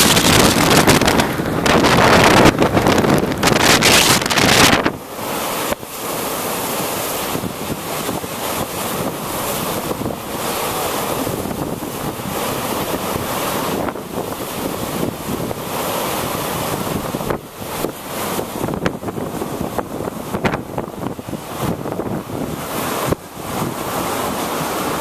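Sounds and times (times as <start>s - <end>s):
waves breaking against a dock: 0.0s - 25.0s
wind buffeting the microphone: 0.0s - 25.0s.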